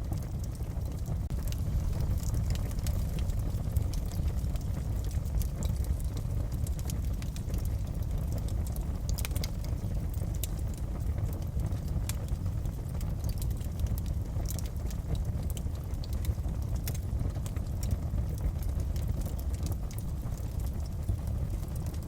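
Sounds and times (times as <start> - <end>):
low rumble of burning fire: 0.0 - 22.0
wood fire crackling: 0.0 - 22.0.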